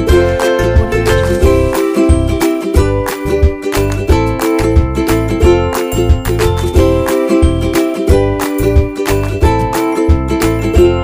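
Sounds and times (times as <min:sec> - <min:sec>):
plucked strings music: 0:00.0 - 0:11.0.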